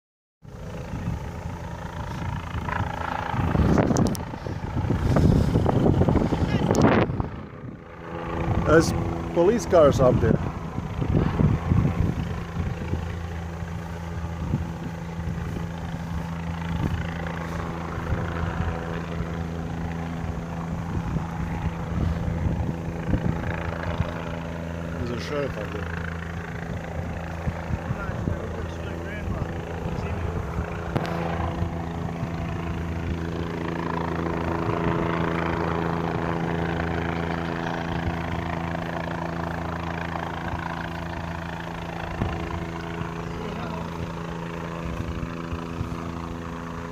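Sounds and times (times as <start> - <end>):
helicopter droning overhead: 0.4 - 46.9.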